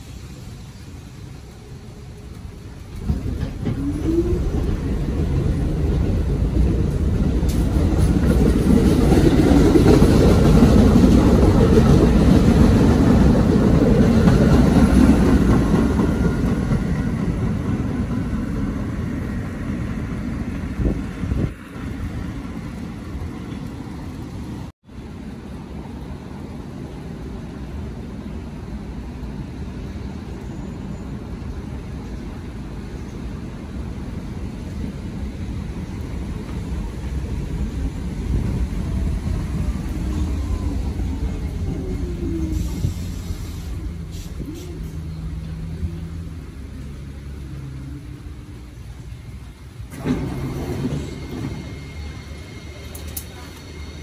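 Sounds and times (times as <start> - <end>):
train rumbling on wet track: 0.0 - 54.0.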